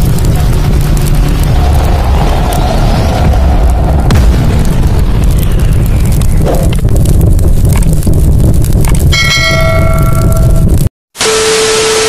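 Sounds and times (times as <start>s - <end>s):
loud crackling rumble: 0.0s - 10.9s.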